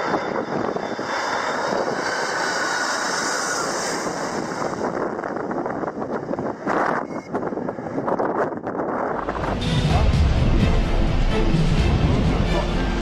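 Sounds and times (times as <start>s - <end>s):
jet airliner engines passing overhead: 0.0s - 13.0s.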